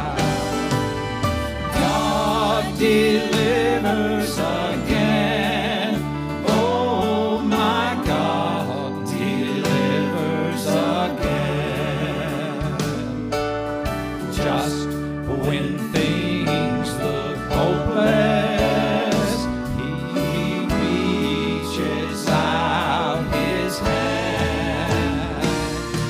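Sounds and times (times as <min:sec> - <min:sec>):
man singing gospel song: 0:00.0 - 0:01.1, 0:01.7 - 0:13.3, 0:14.2 - 0:26.0
instrumental accompaniment: 0:00.0 - 0:26.0.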